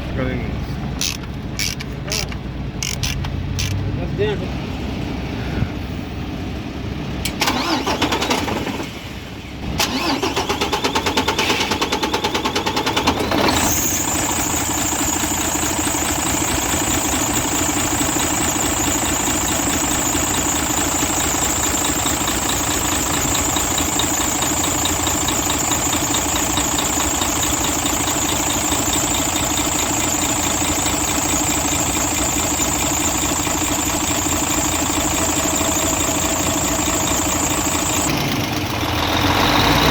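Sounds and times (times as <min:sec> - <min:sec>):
diesel engine idling: 0:00.0 - 0:39.9
diesel engine cranking on starter: 0:00.8 - 0:04.3, 0:07.1 - 0:39.9.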